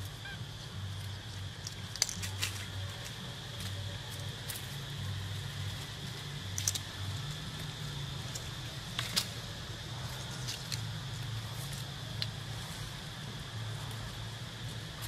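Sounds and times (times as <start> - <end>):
dry leaves crackling: 0.0 - 15.0
steady high hiss: 0.0 - 15.0
steady low rumble: 0.0 - 15.0.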